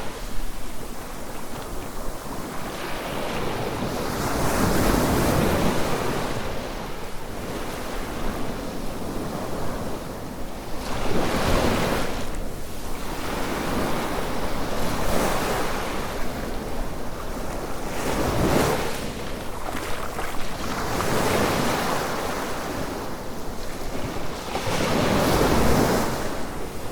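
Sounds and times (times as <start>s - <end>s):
small waves breaking on beach: 0.0s - 26.9s.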